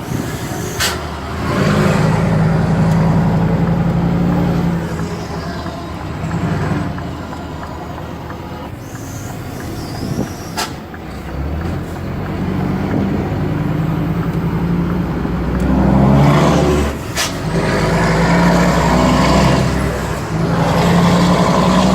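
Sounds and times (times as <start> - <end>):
diesel truck engine revving: 0.0 - 21.9.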